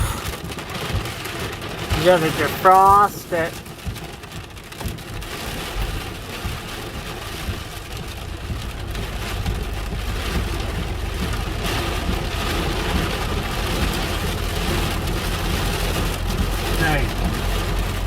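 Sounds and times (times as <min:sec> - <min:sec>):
low rumble: 0:00.0 - 0:02.6, 0:03.8 - 0:18.0
heavy rain on vehicle roof: 0:00.0 - 0:18.0.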